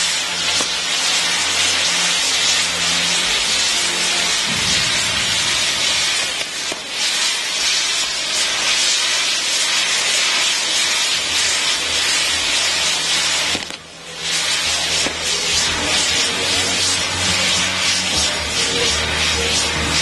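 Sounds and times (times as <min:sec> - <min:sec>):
firework wheels hissing: 0:00.0 - 0:20.0.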